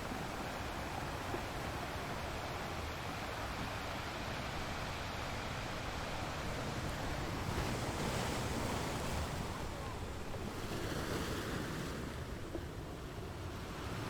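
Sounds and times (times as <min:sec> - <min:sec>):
waves washing onto shore: 0:00.0 - 0:14.0.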